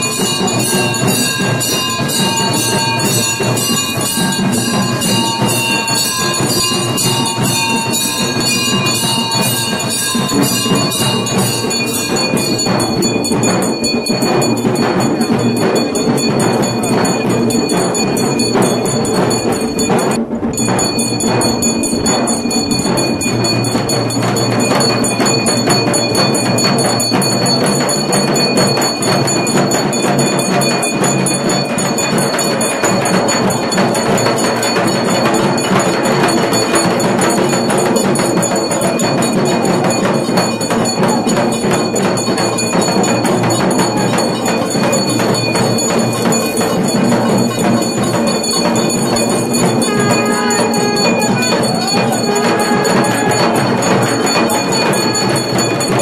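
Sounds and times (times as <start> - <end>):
bells ringing: 0.0 - 56.0
fast dense percussion: 0.0 - 56.0.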